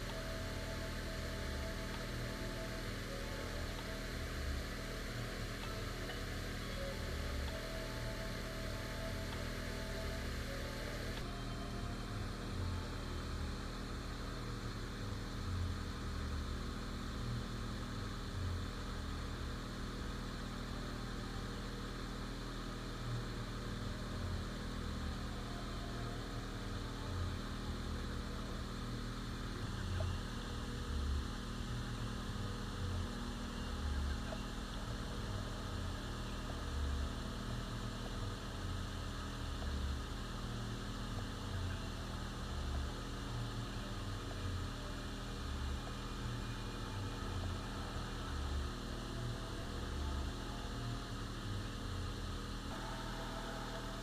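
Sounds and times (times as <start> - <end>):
steady mechanical hum: 0.0 - 54.0.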